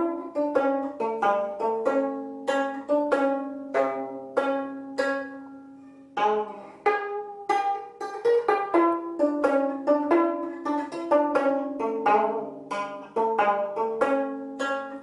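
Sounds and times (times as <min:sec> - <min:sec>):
zither plucked slow melody: 0:00.0 - 0:15.0.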